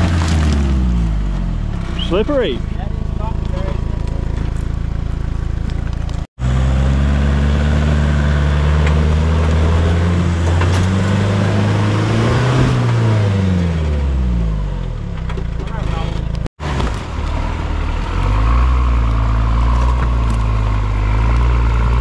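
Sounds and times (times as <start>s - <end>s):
off-road vehicle engine under load: 0.0s - 22.0s.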